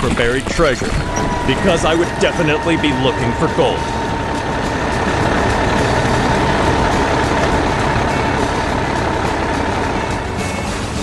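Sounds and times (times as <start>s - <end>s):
excavator engine under load: 0.0s - 11.0s.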